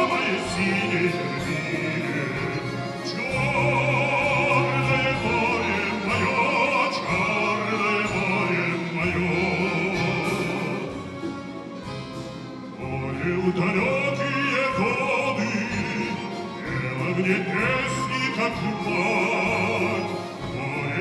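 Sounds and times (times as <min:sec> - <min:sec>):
folk instrument orchestra playing: 0:00.0 - 0:21.0.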